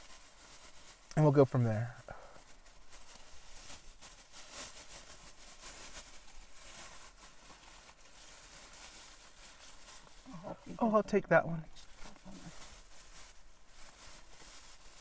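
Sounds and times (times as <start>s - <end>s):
low hiss: 0.0s - 15.0s
paper wrapper rustling: 0.0s - 15.0s.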